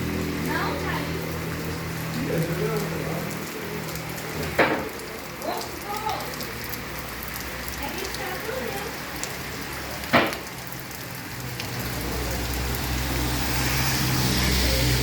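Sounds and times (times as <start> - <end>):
rain hissing on surfaces: 0.0 - 15.0.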